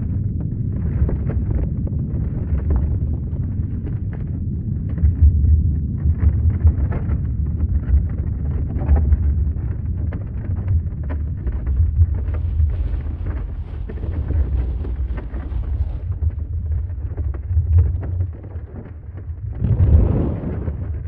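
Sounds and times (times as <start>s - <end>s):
crackling and rattling: 0.0s - 21.0s
deep earthquake rumble: 0.0s - 21.0s.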